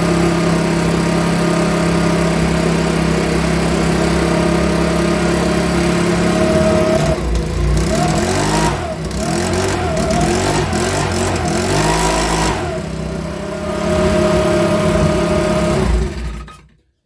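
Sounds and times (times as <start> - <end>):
leaf blower engine revving: 0.0 - 16.6.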